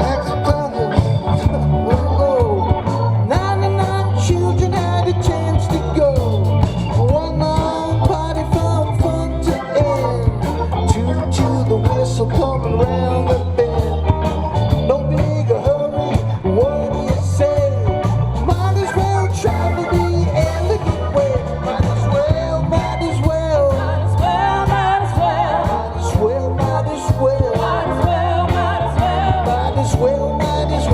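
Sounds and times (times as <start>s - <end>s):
bass: 0.0s - 30.9s
drums: 0.0s - 30.9s
lead guitar bending notes: 0.0s - 30.9s.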